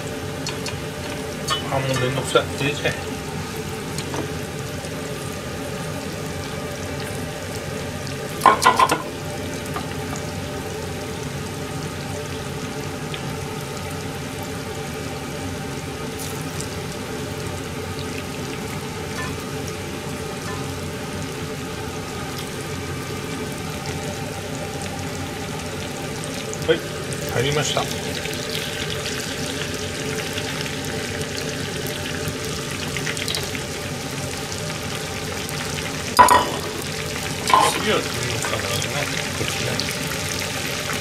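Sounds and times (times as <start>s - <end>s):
chicken deep-frying in oil: 0.0s - 41.0s.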